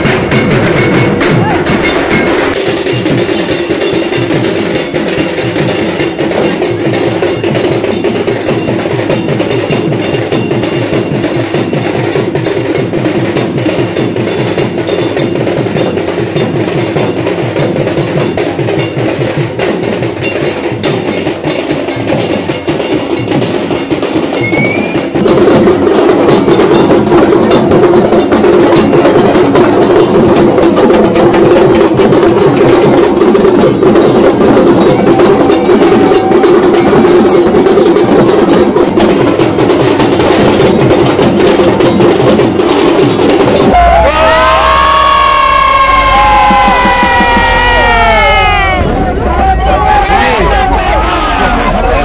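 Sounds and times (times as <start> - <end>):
drum beaten in fast rhythm: 0.0 - 52.0.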